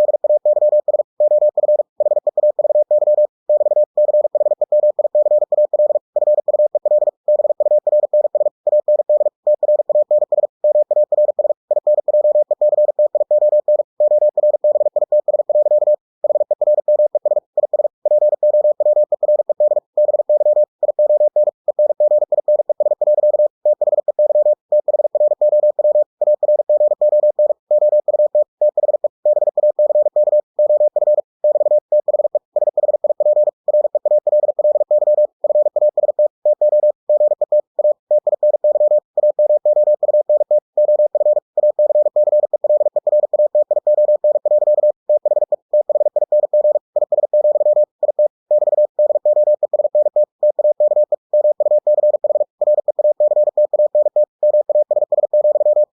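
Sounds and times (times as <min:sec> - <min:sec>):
morse code beeps: 0:00.0 - 0:55.9.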